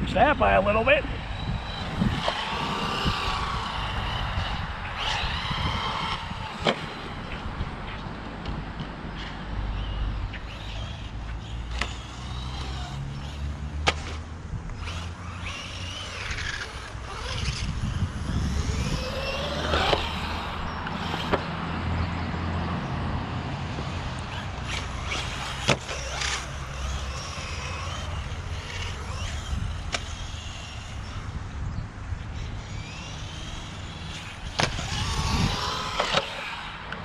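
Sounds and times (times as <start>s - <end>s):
electric motor whining: 0.4s - 8.1s, 9.5s - 22.4s, 23.6s - 37.0s.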